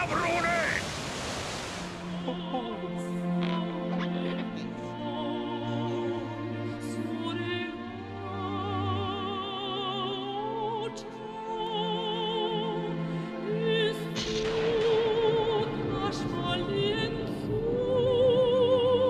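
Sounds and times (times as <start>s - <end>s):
woman singing operatically: 2.0s - 19.0s.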